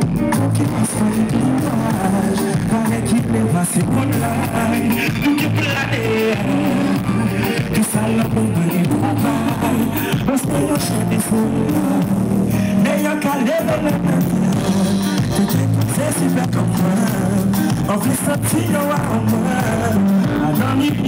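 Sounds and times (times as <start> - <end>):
drums: 0.0 - 21.0
guitar: 0.0 - 21.0
person singing: 0.0 - 21.0.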